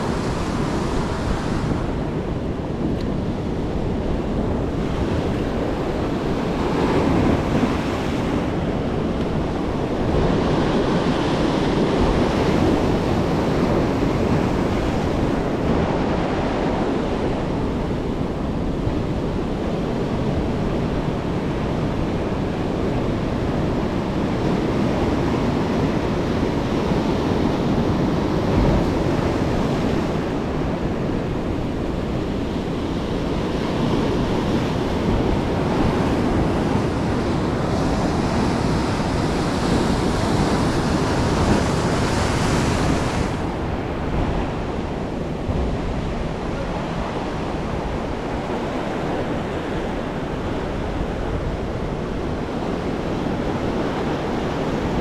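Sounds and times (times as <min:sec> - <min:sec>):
ocean surf breaking: 0:00.0 - 0:55.0
wind on microphone: 0:00.0 - 0:55.0.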